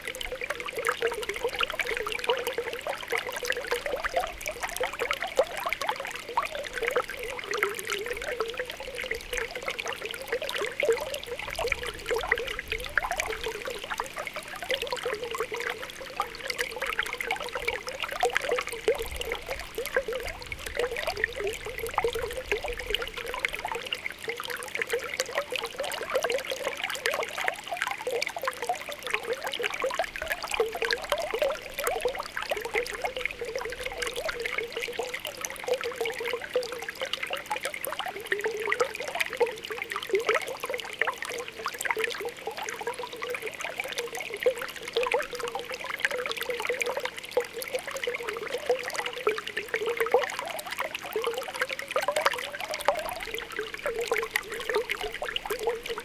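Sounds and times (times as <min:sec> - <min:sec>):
spring water bubbling: 0:00.0 - 0:56.0.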